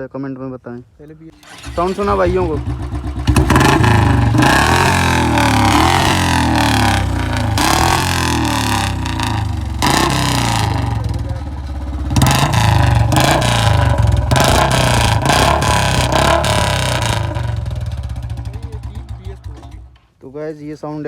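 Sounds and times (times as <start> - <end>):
motorcycle engine revving: 1.3 - 20.1
motorcycle engine idling: 1.4 - 20.1.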